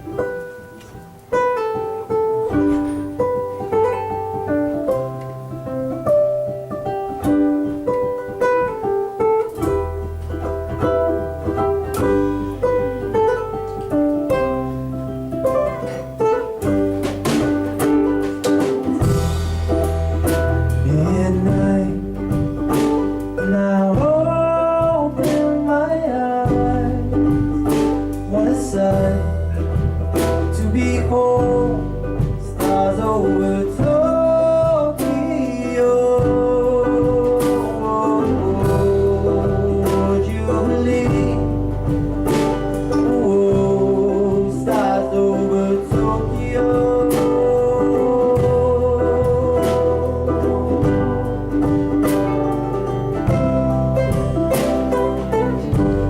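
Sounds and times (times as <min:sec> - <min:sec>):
guitar picking single notes: 0:00.0 - 0:56.0
live band playing: 0:00.0 - 0:56.0
plucked strings: 0:00.0 - 0:56.0.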